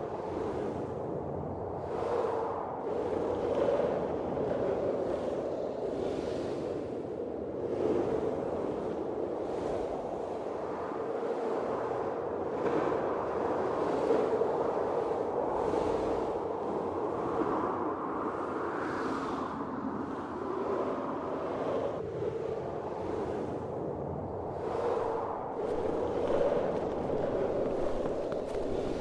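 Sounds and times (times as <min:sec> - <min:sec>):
blizzard wind gusting: 0:00.0 - 0:29.0.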